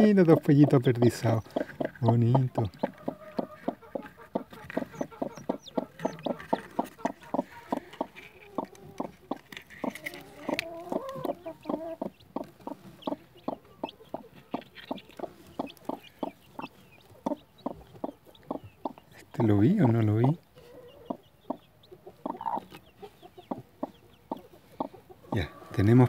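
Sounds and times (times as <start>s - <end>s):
hen clucking: 0.0s - 26.0s.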